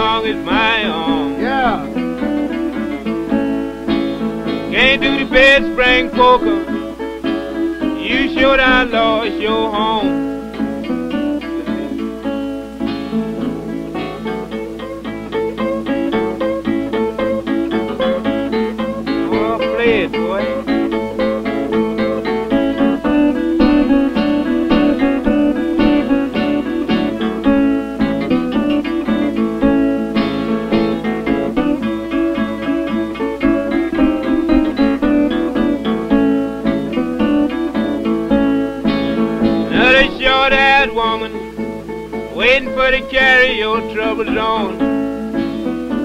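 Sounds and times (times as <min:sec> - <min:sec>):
old blues guitar picking: 0:00.0 - 0:46.0.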